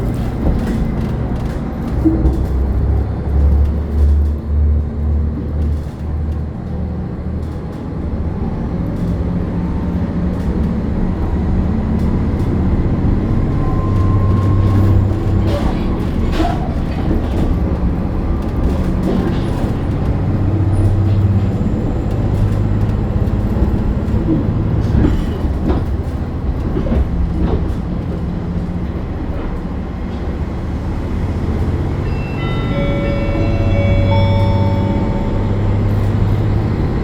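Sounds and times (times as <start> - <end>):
train engine hum and rumble: 0.0 - 37.0.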